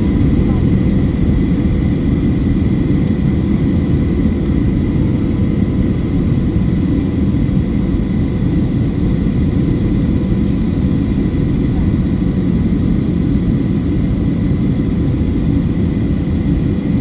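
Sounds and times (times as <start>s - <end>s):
airplane cabin engine roar: 0.0s - 17.0s.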